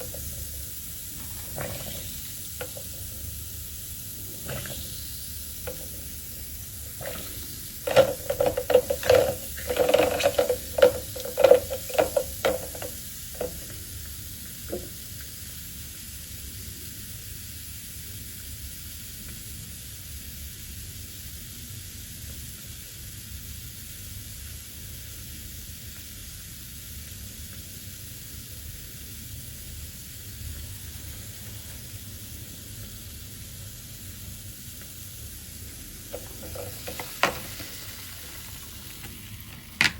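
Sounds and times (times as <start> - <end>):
soft fizzing hiss: 0.0 - 21.3, 22.3 - 39.9.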